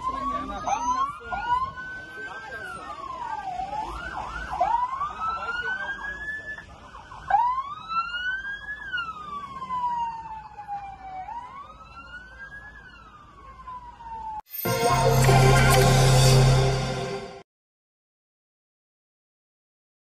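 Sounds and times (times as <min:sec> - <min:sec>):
emergency siren wailing: 0:00.0 - 0:17.2.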